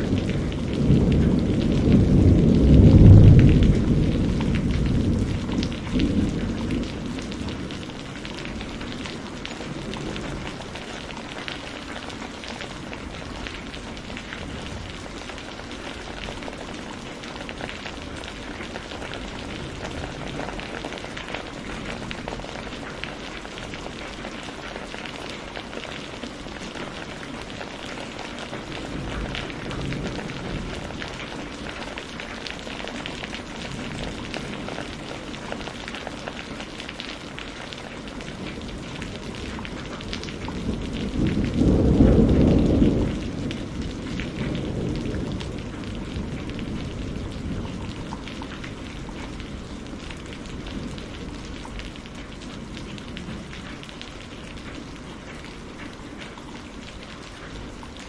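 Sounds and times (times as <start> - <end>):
thunder rumble: 0.0 - 24.7, 25.4 - 35.8, 38.3 - 55.5
heavy rain falling: 0.0 - 58.0.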